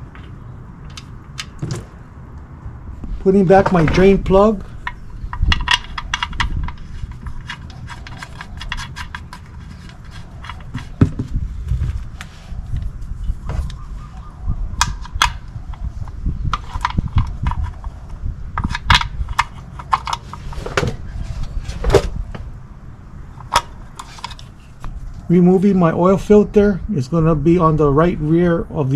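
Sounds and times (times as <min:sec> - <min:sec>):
low steady rumble: 0:00.0 - 0:28.9.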